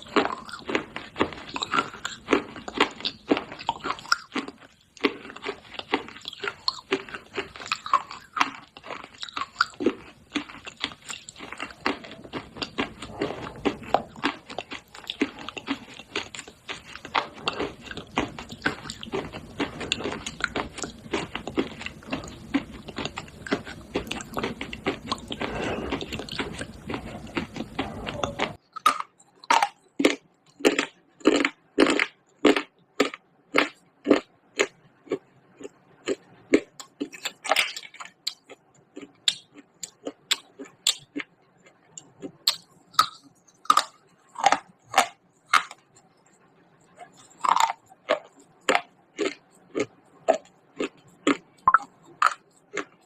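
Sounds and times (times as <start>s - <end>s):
dry clay being chewed: 0.0s - 53.0s.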